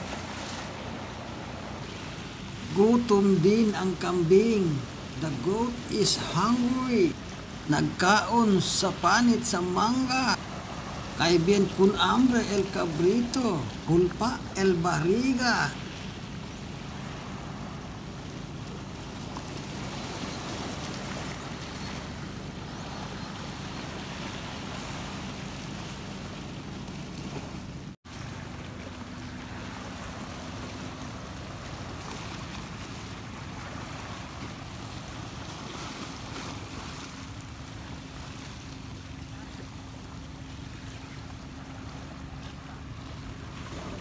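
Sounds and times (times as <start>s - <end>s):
waves breaking on rocks: 0.0s - 44.0s.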